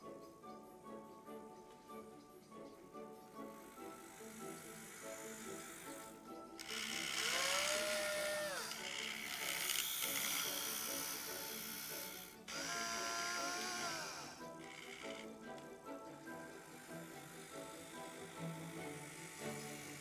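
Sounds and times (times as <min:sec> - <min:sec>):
background music: 0:00.0 - 0:20.0
small electric motor whining: 0:03.4 - 0:20.0.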